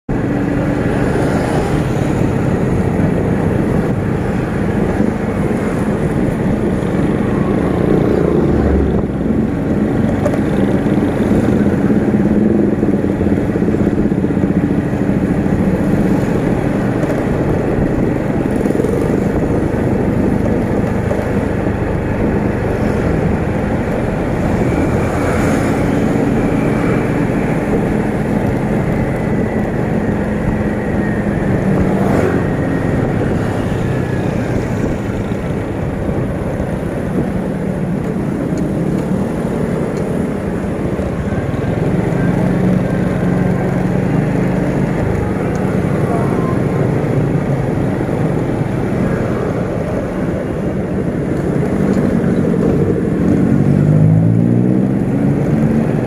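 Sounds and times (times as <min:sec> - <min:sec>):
road and wind noise: 0:00.0 - 0:56.0
motorcycle engine running: 0:00.1 - 0:54.0
traffic: 0:00.1 - 0:56.0.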